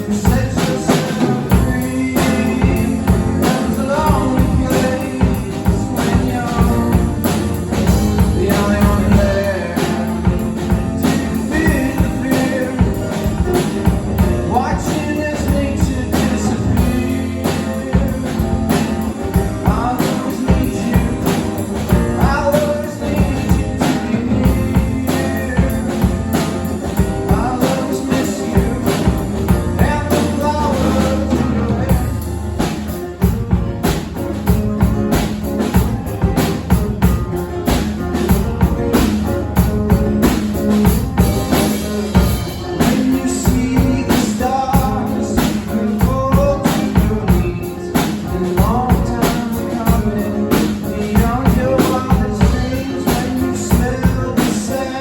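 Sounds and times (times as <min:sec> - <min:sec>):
drum kit: 0:00.0 - 0:55.0
electric guitar: 0:00.0 - 0:55.0
person singing: 0:00.0 - 0:55.0.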